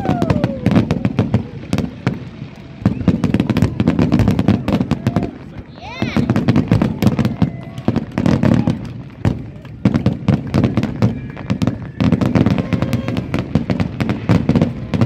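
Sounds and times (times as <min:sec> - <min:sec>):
fireworks booms and crackling: 0:00.0 - 0:15.0.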